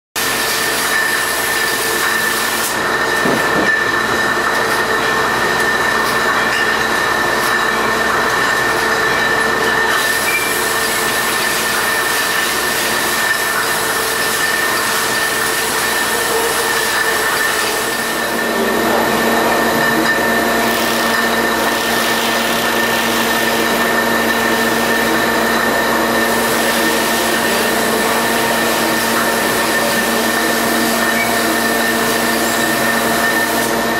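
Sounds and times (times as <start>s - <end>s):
bottling machine running: 0.2s - 33.9s
high machine whine: 0.2s - 33.9s.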